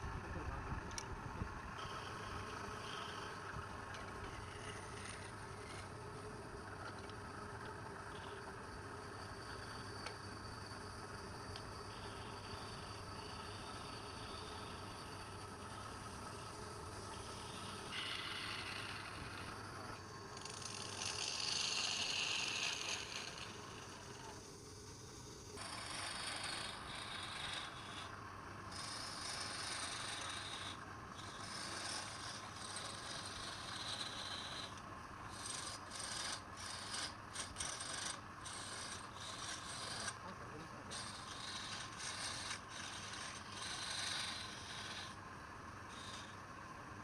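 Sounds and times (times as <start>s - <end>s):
wood scraping on a lathe: 1.7s - 46.8s.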